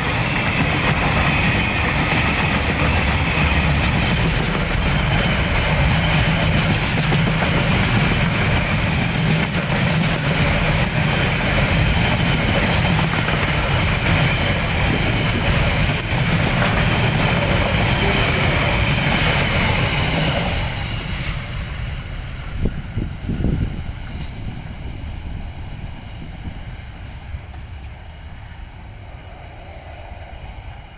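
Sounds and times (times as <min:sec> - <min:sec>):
freight train wheels rumbling on rail: 0:00.0 - 0:30.9
train wheels clickety-clack: 0:00.0 - 0:30.9.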